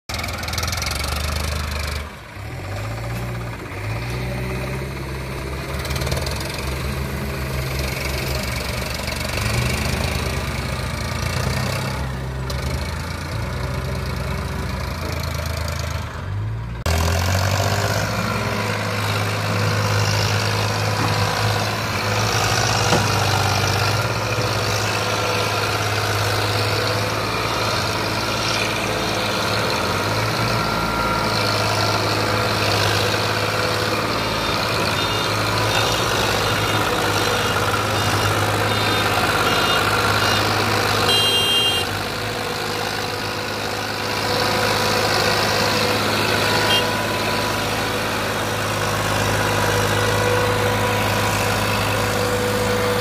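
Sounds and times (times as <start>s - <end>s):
tractor diesel engine running hard: 0.1s - 53.0s.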